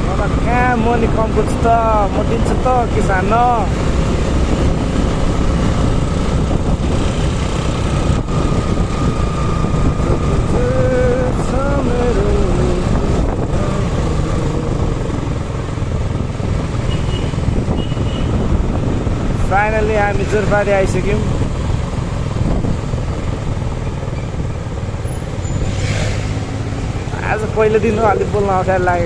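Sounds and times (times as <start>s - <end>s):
motorcycle engine running: 0.0s - 29.0s
wind rumbling on microphone: 0.0s - 29.0s.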